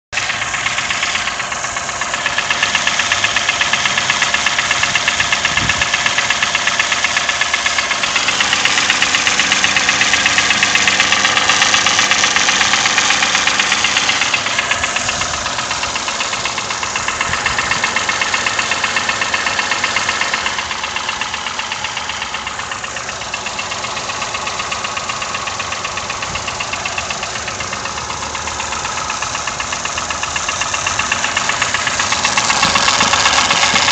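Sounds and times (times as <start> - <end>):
engine running with ticking knock: 0.1 - 33.9.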